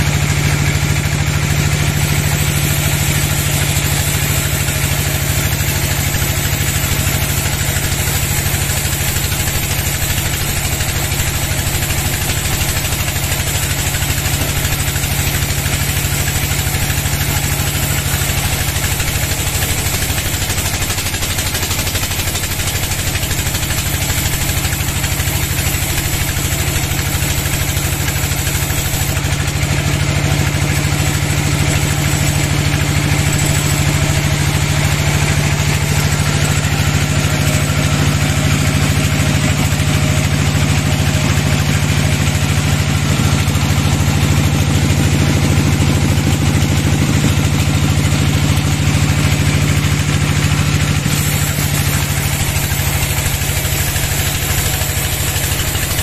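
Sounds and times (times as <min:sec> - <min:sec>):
bandsaw cutting log: 0:00.0 - 0:56.0.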